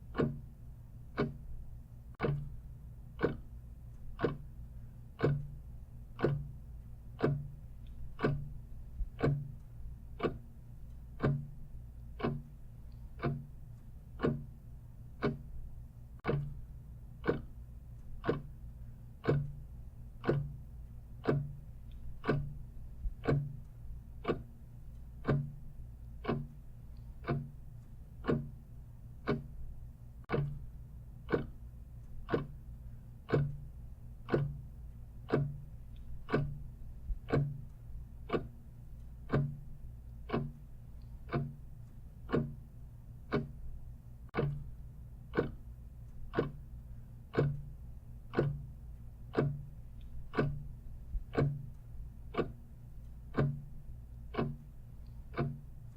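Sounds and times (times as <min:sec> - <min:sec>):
clock ticking: 0:00.0 - 0:55.9
faint low hum: 0:00.0 - 0:55.9.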